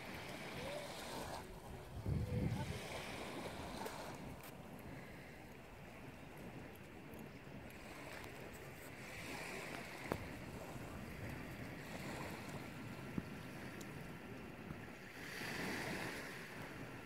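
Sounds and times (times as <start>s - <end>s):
small waves washing on shore: 0.0s - 17.0s.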